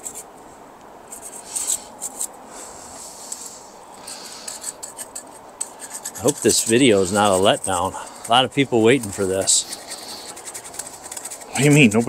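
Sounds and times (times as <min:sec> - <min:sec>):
scraping on metal: 0:01.1 - 0:12.0.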